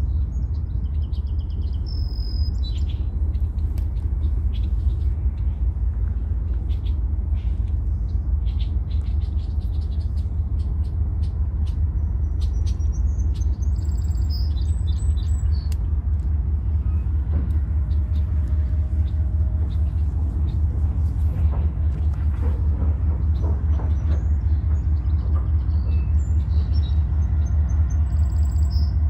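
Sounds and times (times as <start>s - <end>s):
freight train rumbling past: 0.0s - 29.0s
sharp clicks of train wheels: 2.5s - 29.0s.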